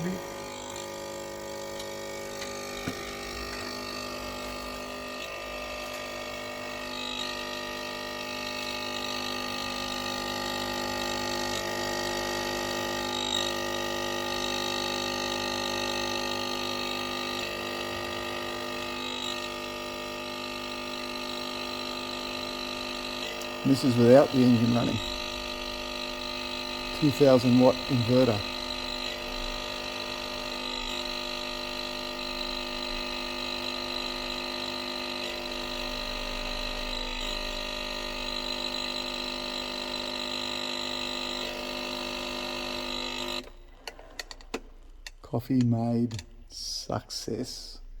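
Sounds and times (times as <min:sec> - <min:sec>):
coffee machine pump buzzing: 0:00.0 - 0:46.6.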